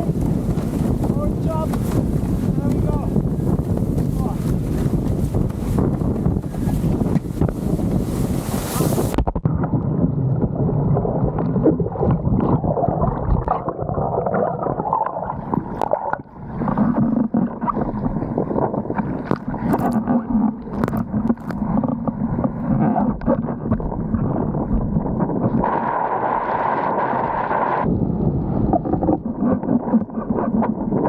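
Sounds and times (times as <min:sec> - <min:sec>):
muffled gurgling water: 0:00.0 - 0:31.0
wind buffeting microphone: 0:00.0 - 0:31.0.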